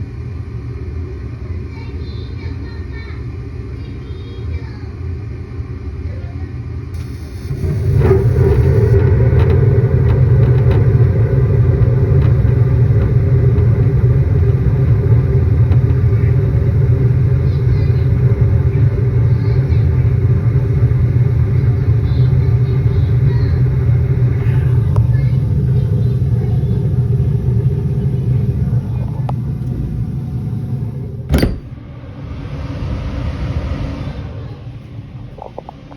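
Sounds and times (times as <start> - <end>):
furnace running: 0.0 - 35.9.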